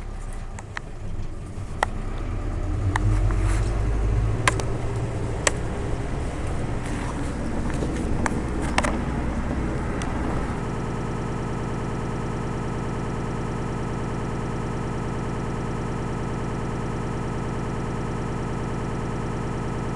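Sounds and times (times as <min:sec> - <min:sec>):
bus engine drone: 0:00.0 - 0:19.9.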